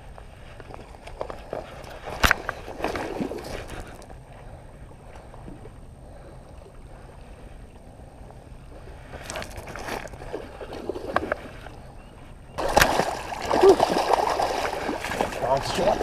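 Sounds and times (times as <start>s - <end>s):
low wind rumble: 0.0s - 16.0s.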